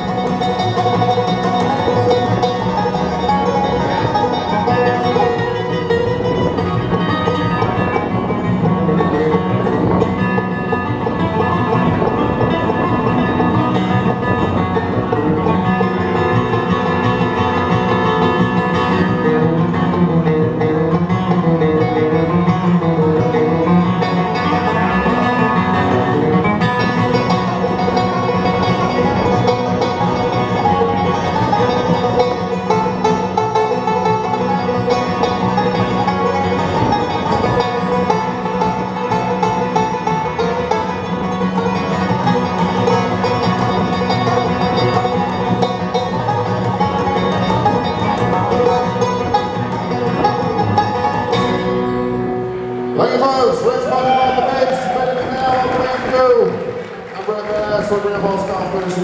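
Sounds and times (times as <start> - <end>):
guitar picking: 0.0 - 57.2
banjo picking: 0.0 - 59.0
bluegrass band playing: 0.0 - 59.0.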